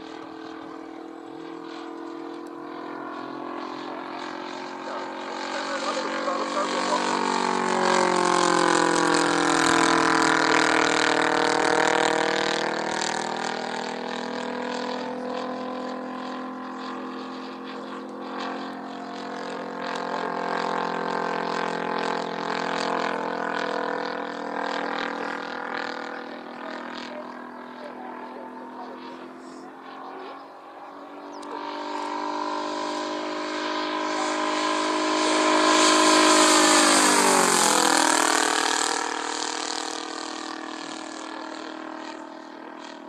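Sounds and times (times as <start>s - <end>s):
model plane engine flying past: 0.0s - 43.0s.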